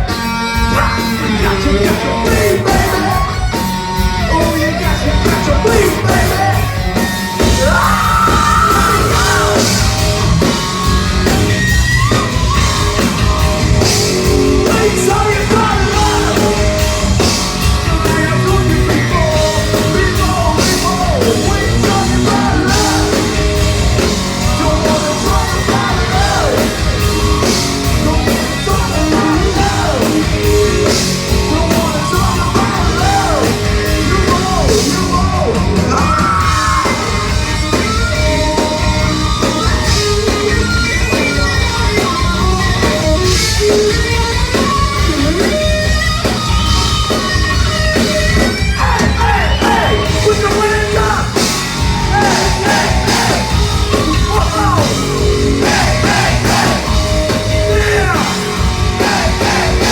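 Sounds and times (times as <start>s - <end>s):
bass: 0.0s - 59.9s
drums: 0.0s - 59.9s.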